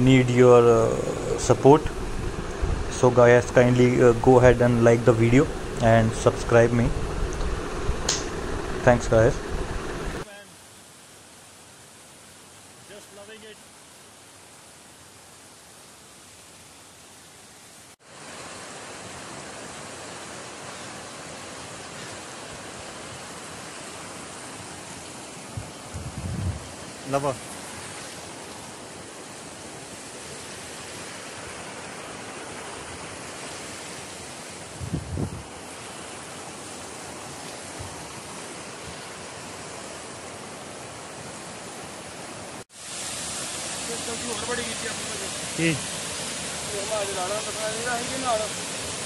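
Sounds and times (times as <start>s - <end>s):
stream rushing over boulders: 0.0s - 49.0s.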